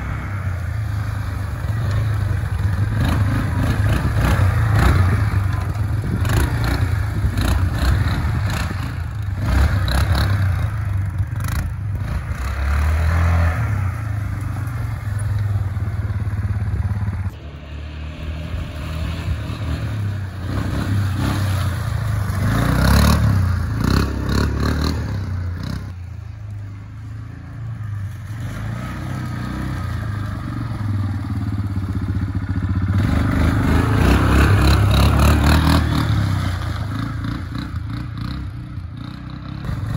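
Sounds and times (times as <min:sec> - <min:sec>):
atv engine revving: 0:00.0 - 0:26.1, 0:27.1 - 0:39.9.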